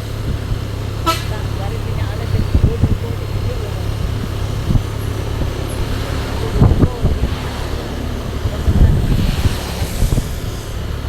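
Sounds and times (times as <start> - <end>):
truck engine running: 0.0 - 11.0
wind buffeting microphone: 0.0 - 11.0.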